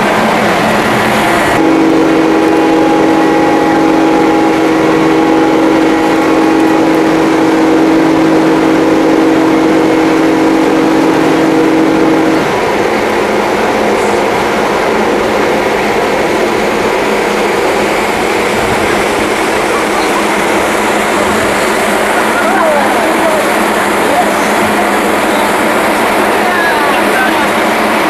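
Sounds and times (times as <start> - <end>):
steady rush of noise: 0.0 - 28.0
ship's horn long blast: 1.2 - 28.0.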